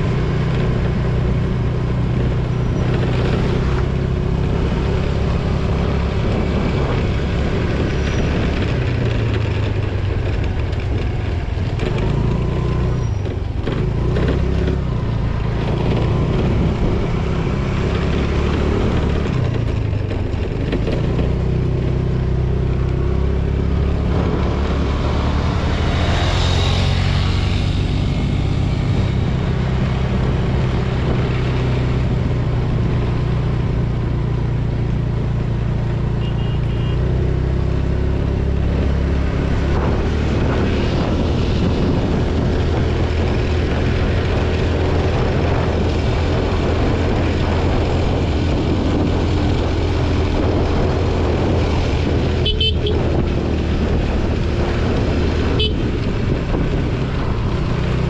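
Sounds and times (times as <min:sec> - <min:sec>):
scooter engine running: 0:01.7 - 0:58.0.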